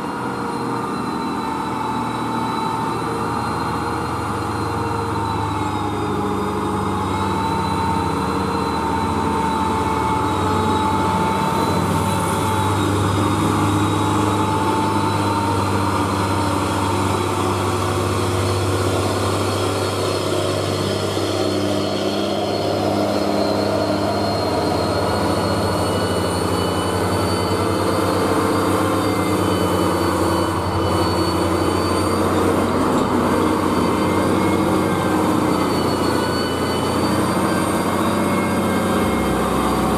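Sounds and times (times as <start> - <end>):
heavy truck diesel engines labouring: 0.0 - 39.9
high whining tones: 0.0 - 39.9.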